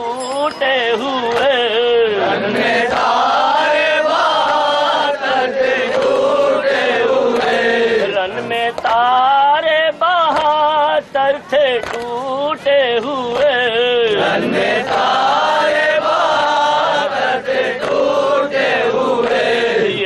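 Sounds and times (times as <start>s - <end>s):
lead voice chanting: 0.0s - 20.0s
men chanting together: 1.0s - 20.0s.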